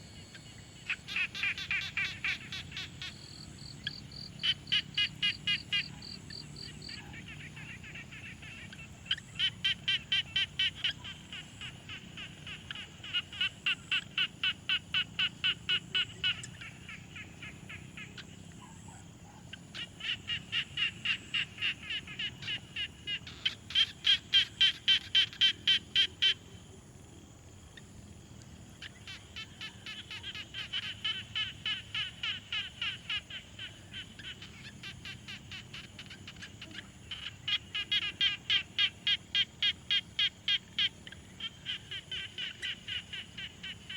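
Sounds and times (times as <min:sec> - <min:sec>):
frogs croaking: 0:00.0 - 0:43.9.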